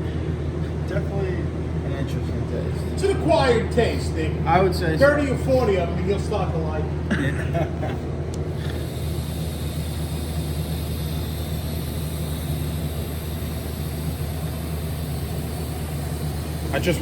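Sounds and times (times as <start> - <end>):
electric machine humming: 0.0 - 17.0.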